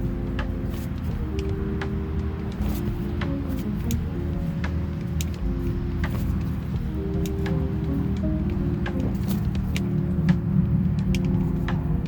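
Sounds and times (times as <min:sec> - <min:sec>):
music with heavy bass: 0:00.0 - 0:12.0.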